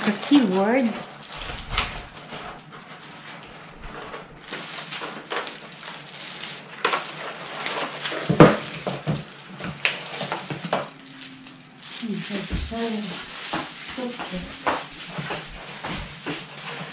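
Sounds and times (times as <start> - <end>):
cardboard packaging handled: 0.0 - 16.9
plastic bag crinkling: 0.0 - 16.9.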